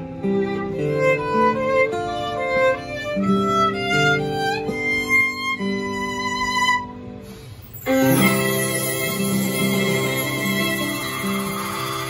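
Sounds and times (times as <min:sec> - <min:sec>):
bowed violin melody: 0:00.0 - 0:07.0, 0:07.8 - 0:12.0
acoustic guitar accompaniment: 0:00.0 - 0:12.0.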